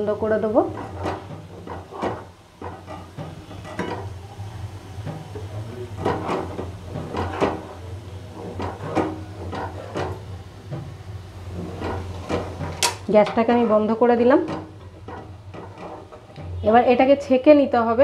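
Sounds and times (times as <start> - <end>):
metal spatula scraping a pan: 0.3 - 4.1, 5.0 - 16.7.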